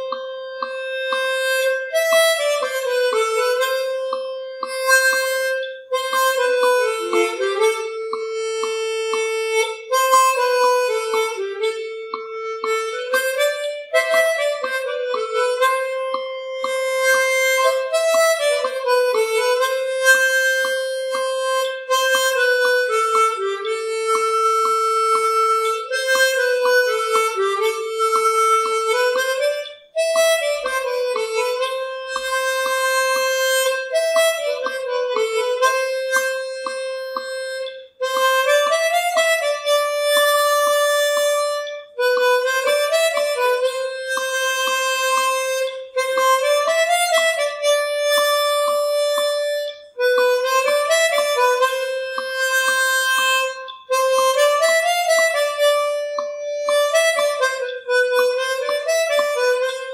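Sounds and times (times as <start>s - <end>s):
soft regular ticks: 0.0s - 59.9s
wind instrument slow melody: 0.0s - 59.9s.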